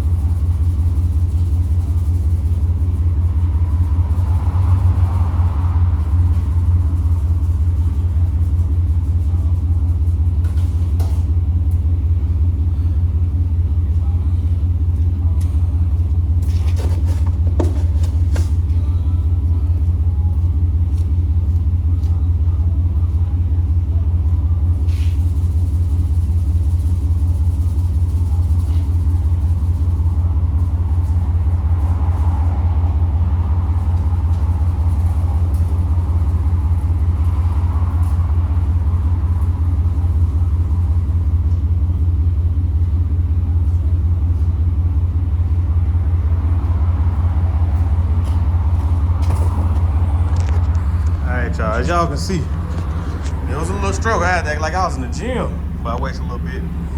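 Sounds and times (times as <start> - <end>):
low vehicle rumble: 0.0 - 56.9.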